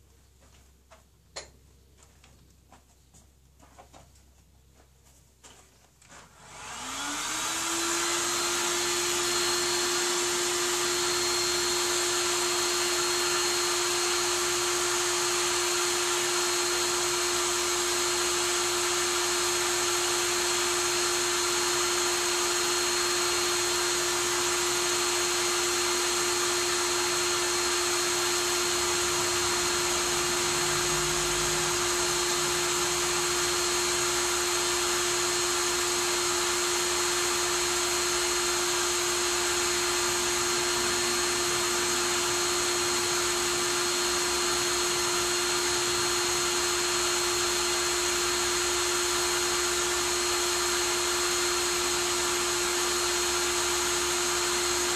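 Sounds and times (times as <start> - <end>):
power tool motor whining: 6.4 - 54.9.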